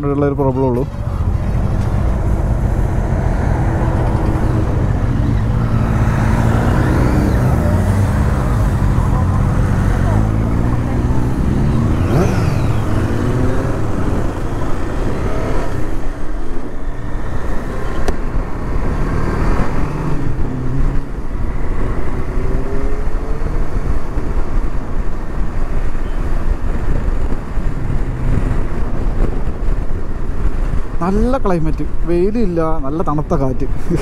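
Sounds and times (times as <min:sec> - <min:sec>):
motorcycle engines revving: 0:00.0 - 0:30.9
wind and road noise: 0:00.0 - 0:34.0.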